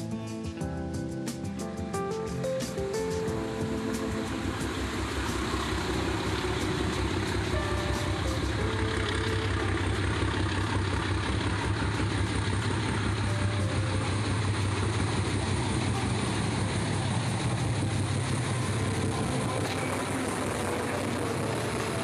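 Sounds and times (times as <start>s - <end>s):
train engine hum: 1.0s - 22.0s
train rolling noise: 1.3s - 22.0s.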